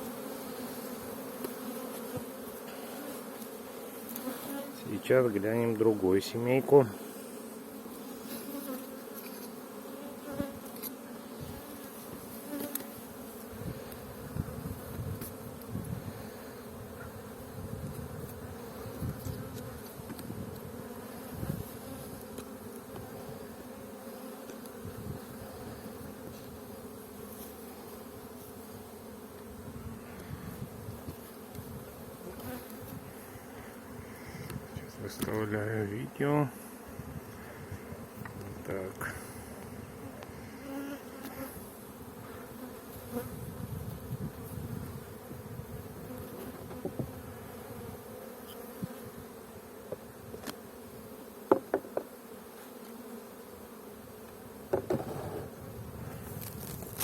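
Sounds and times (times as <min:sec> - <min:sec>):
honeybees humming: 0:00.0 - 0:57.0.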